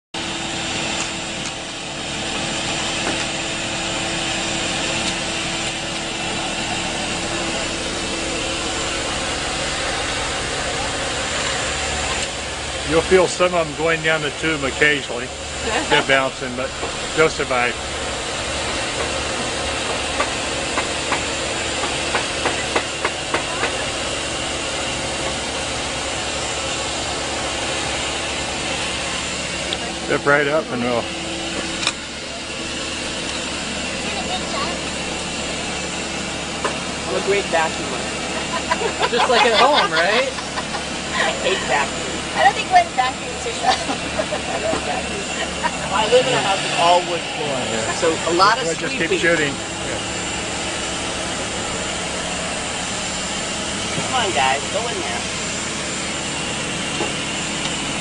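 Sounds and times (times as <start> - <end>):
vacuum motor hum with whine: 0.2 - 58.0.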